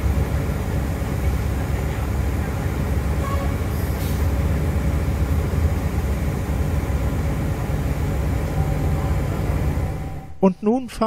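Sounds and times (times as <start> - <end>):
wheels running on track: 0.0 - 10.3
diesel railcar engine drone: 0.0 - 10.5.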